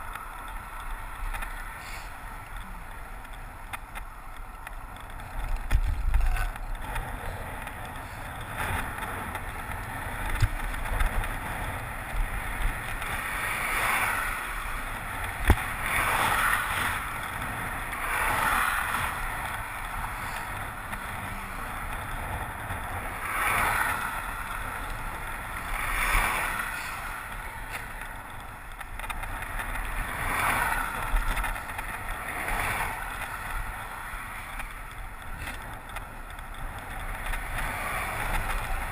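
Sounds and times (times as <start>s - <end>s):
passing vehicles hissing: 0.0s - 5.6s, 6.4s - 38.9s
road noise: 0.0s - 38.9s
wind rumbling on microphone: 0.0s - 38.9s.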